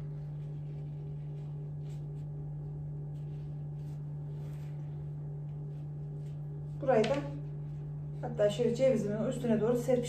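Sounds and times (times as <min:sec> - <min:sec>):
soft rustles of walnuts spread: 0:00.0 - 0:08.2
low electrical hum: 0:00.0 - 0:10.0.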